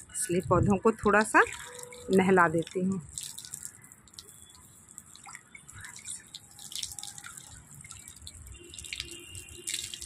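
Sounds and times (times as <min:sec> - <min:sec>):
water drips and splashes: 0:00.0 - 0:10.0.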